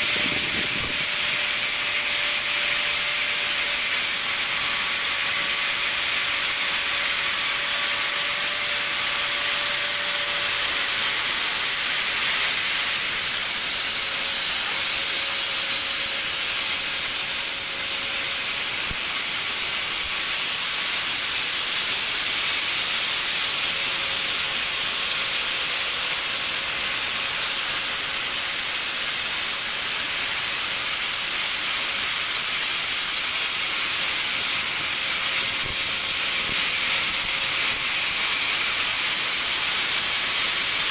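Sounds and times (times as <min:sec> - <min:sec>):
router spindle milling foam: 0:00.0 - 0:40.9.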